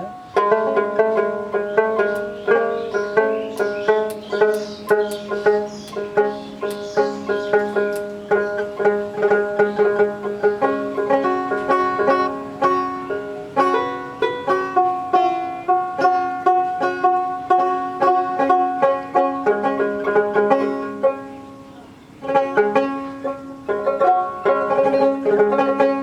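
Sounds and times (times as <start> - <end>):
plucked lute melody: 0.0 - 26.0.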